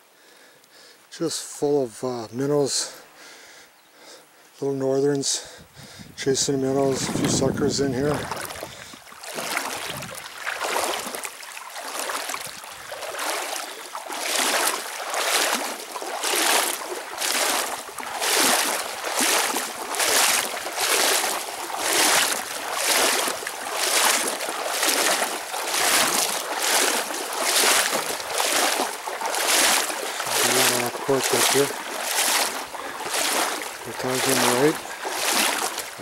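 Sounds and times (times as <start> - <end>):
paddle strokes in shallow water: 5.4 - 36.0.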